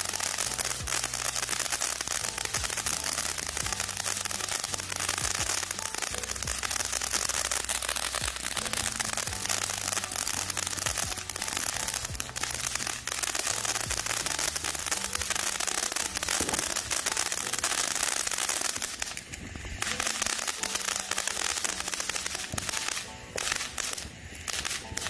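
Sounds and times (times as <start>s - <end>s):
firework fountain hissing and crackling: 0.0s - 25.0s.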